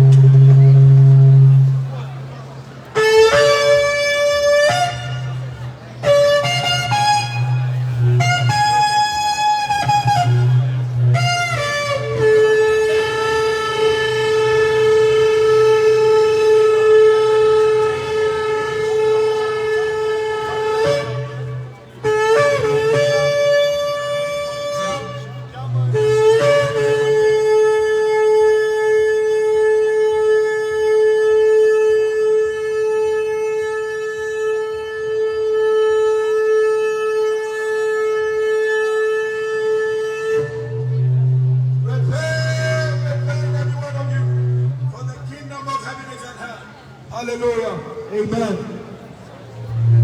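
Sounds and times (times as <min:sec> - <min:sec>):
shofar blast: 0:00.0 - 0:01.9, 0:03.0 - 0:45.0.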